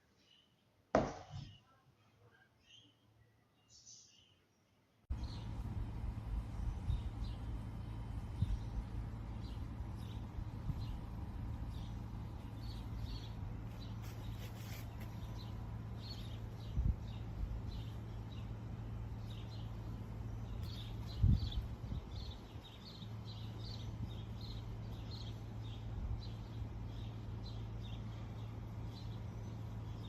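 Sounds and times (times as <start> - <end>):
small birds chirping: 1.4 - 30.0
steady low hum: 5.0 - 30.0.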